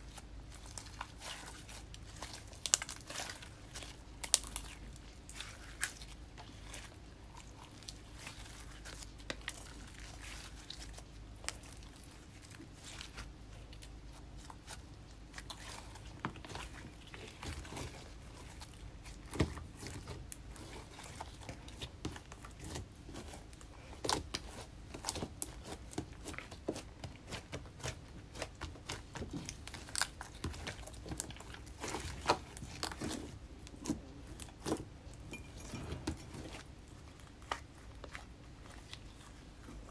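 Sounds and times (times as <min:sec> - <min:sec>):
slime squishing by hand: 0:00.0 - 0:39.9.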